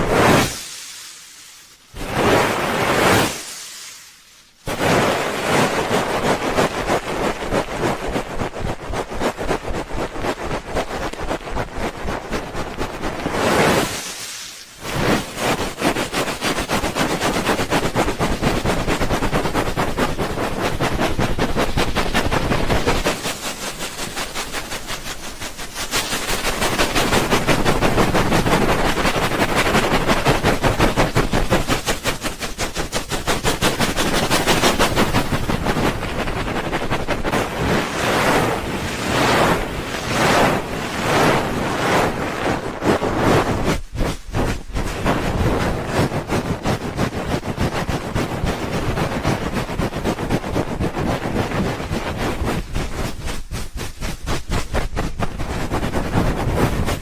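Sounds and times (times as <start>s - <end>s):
hands rubbing over microphone: 4.7s - 57.0s.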